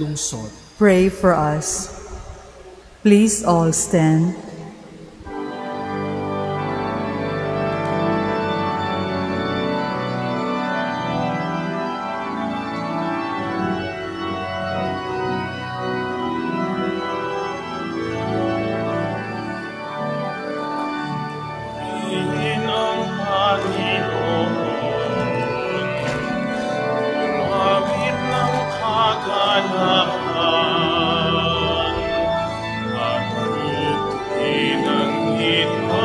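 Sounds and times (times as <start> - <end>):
church organ playing chords: 0.0 - 36.0.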